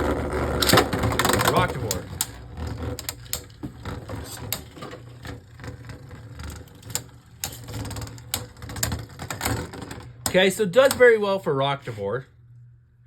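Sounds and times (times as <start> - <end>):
spinning top humming: 0.0 - 11.2
spinning top clicking and clacking: 0.6 - 11.2.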